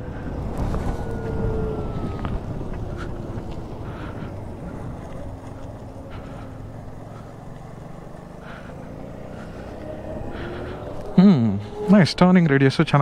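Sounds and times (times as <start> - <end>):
electric scooter riding rumble: 0.0 - 13.0.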